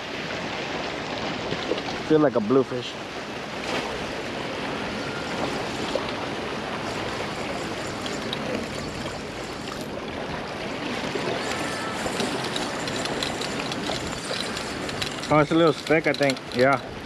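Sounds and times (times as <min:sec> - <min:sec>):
small waves splashing on rocks: 0:00.1 - 0:17.0.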